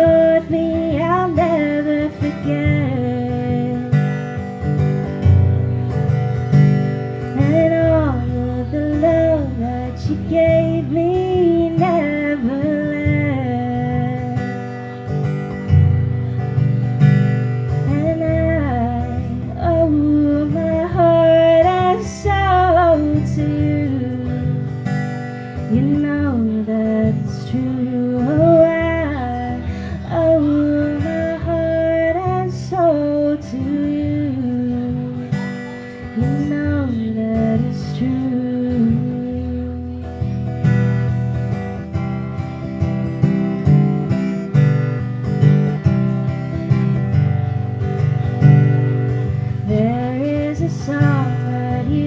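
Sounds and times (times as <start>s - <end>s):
acoustic guitar: 0.0s - 52.0s
woman singing: 0.0s - 52.0s.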